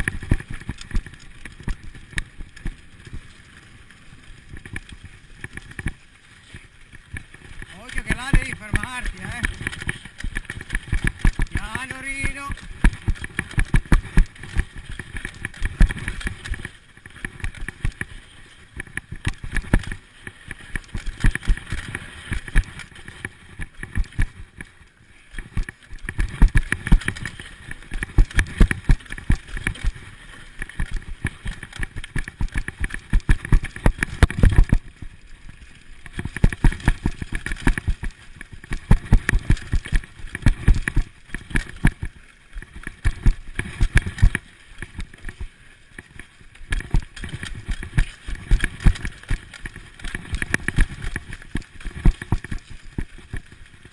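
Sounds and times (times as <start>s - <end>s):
bike clattering and rattling: 0.0s - 53.9s.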